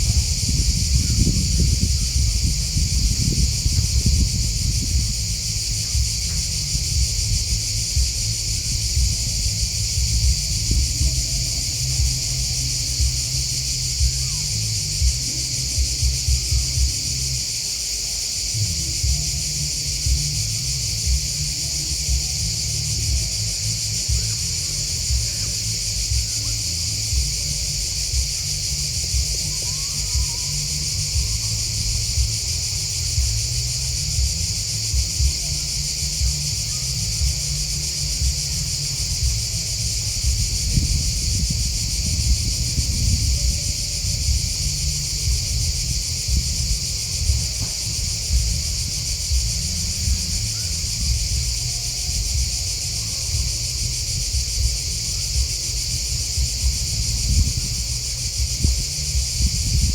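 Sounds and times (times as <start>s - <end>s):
constant low rumble: 0.0s - 59.9s
crickets and grasshoppers chorus: 0.0s - 59.9s.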